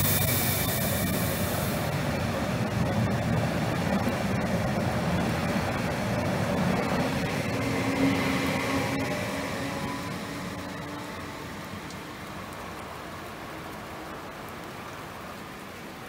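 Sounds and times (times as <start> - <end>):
train motor hum: 0.0 - 15.3
train wheels rumbling on rails: 0.0 - 16.0.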